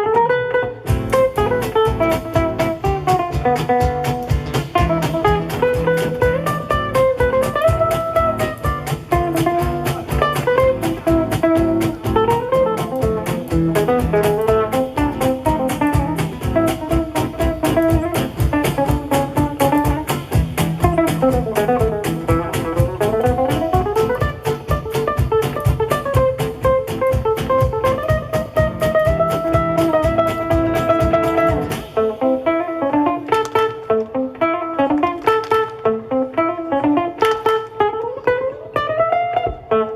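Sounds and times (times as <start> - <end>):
acoustic guitars strumming: 0.0 - 39.9
band lead melody: 0.0 - 39.9.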